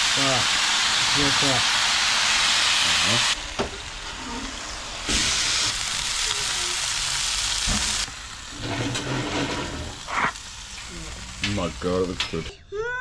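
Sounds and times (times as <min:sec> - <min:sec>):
fish sizzling on a hotplate: 0:00.0 - 0:12.5.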